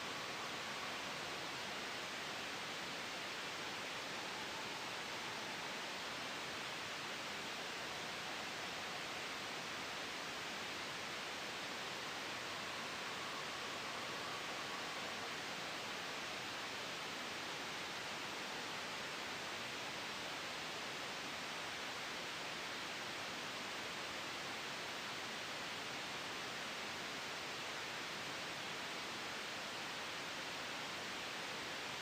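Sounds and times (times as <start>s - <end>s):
white noise: 0.0s - 32.0s.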